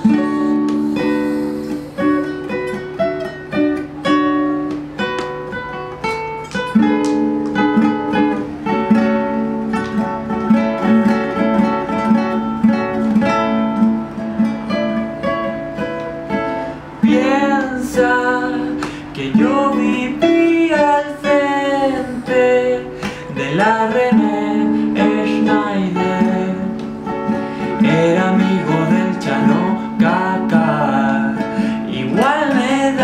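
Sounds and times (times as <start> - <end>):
acoustic guitar plucking and strumming: 0.0 - 33.0.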